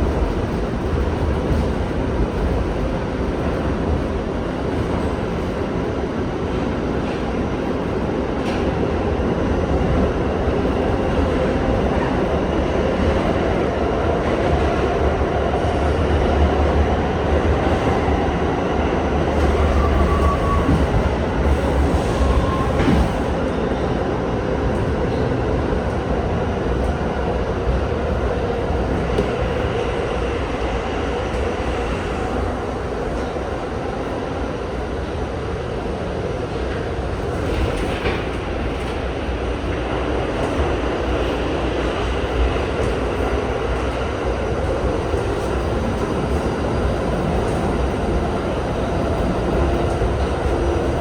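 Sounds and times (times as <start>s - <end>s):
subway train rumbling on track: 0.0s - 51.0s.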